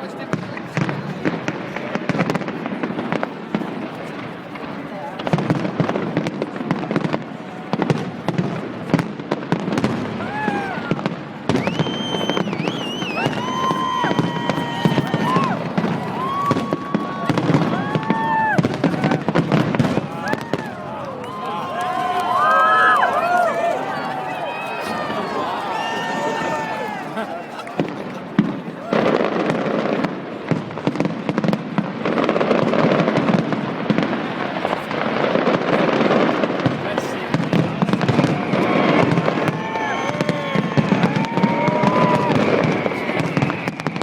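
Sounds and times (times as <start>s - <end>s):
fireworks bangs and crackles: 0.0s - 44.0s
high-pitched whistling fireworks: 0.3s - 44.0s.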